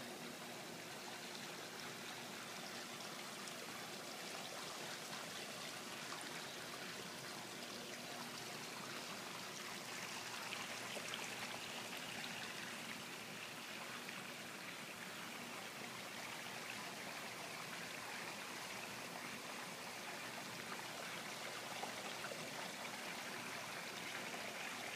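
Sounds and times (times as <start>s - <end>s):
trickling water in a pond: 0.0s - 24.9s.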